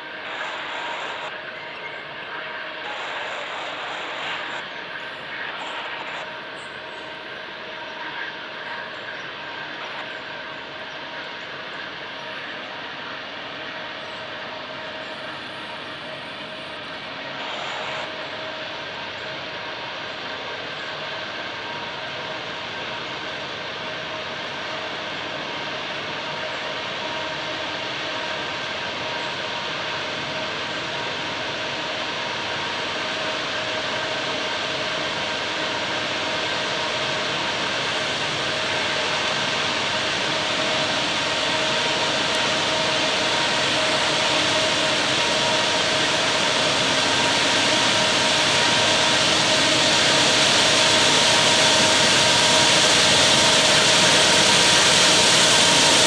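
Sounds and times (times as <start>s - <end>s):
faint steady whine: 0.0s - 56.0s
train wheels rumbling on track: 0.0s - 56.0s.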